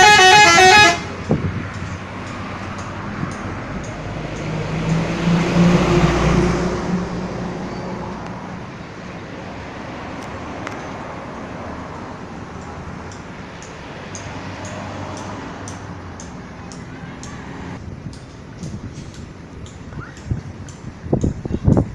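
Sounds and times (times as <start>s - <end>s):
bus driving past: 0.0s - 21.9s
traffic noise: 0.0s - 21.9s.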